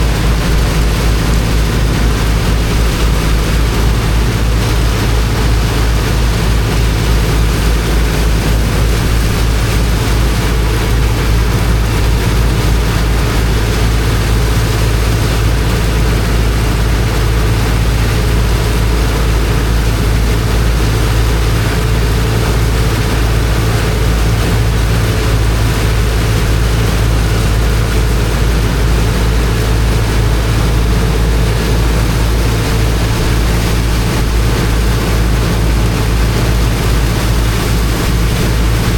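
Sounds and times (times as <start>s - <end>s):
water jet rushing: 0.0s - 38.9s
water pump engine running: 0.0s - 38.9s.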